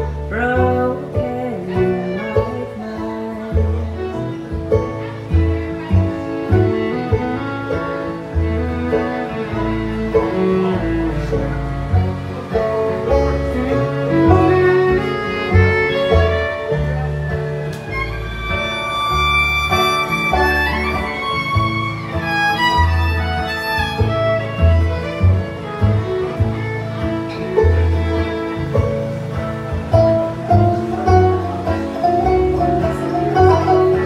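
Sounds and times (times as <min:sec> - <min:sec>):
acoustic guitar: 0:00.0 - 0:34.0
fiddle playing lead: 0:00.0 - 0:34.0
plucked upright bass: 0:00.0 - 0:34.0.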